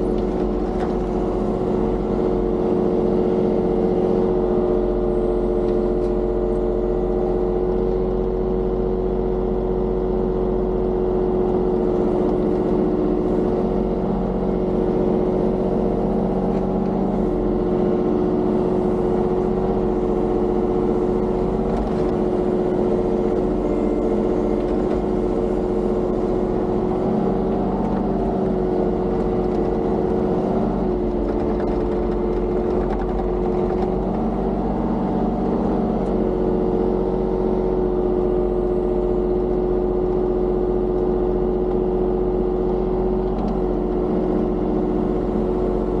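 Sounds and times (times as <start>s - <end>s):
excavator diesel engine droning: 0.0s - 46.0s.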